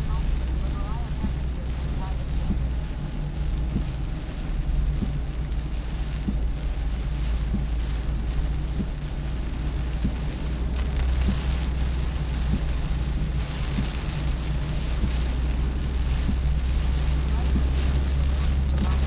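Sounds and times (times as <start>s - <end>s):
engine and road drone: 0.0s - 19.0s
rain hiss: 0.0s - 19.0s.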